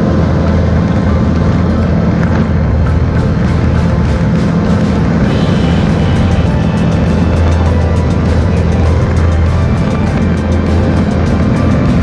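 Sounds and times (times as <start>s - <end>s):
loud background music: 0.0s - 12.0s.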